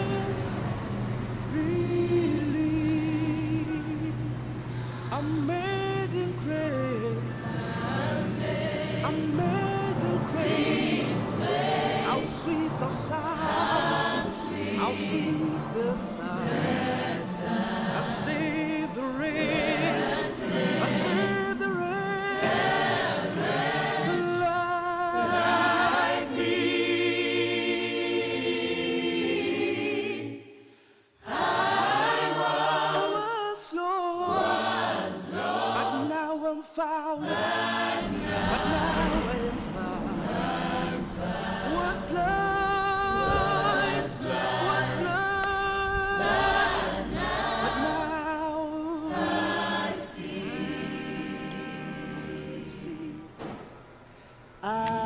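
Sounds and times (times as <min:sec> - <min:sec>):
choir singing a hymn: 0:00.0 - 0:53.8.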